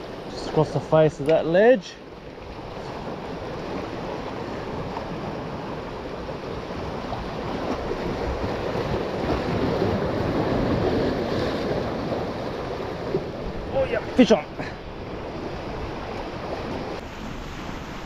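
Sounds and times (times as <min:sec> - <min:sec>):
surf washing against rocks: 0:00.0 - 0:18.0.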